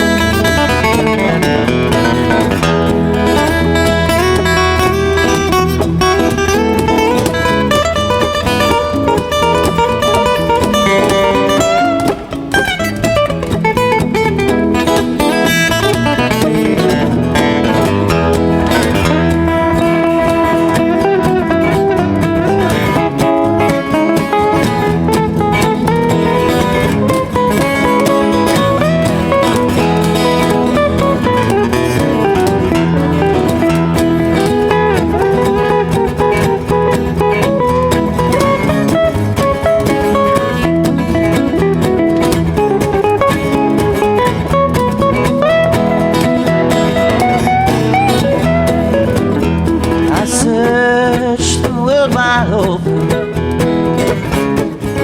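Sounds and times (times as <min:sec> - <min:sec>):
acoustic guitar melody: 0:00.0 - 0:55.0
cajon beat: 0:00.0 - 0:55.0
strummed rhythm guitar: 0:00.0 - 0:55.0.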